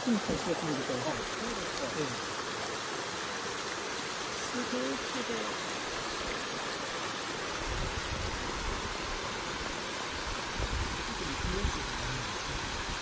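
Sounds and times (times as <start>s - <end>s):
waterfall splashing over rock: 0.0s - 13.0s.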